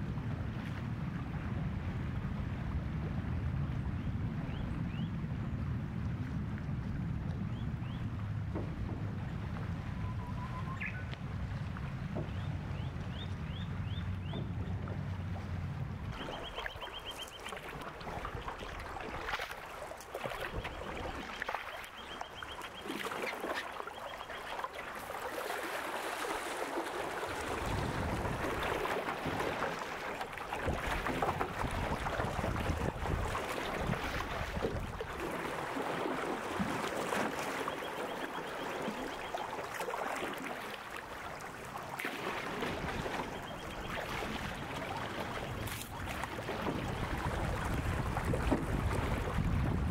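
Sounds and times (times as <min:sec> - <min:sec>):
paddle splashing in water: 0:08.4 - 0:49.9.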